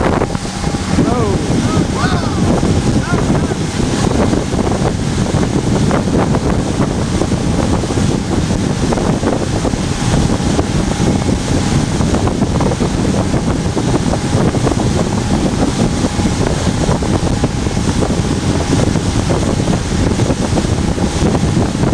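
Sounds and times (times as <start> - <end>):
motorboat engine and water rushing: 0.0 - 21.9
wind buffeting microphone: 0.0 - 21.9.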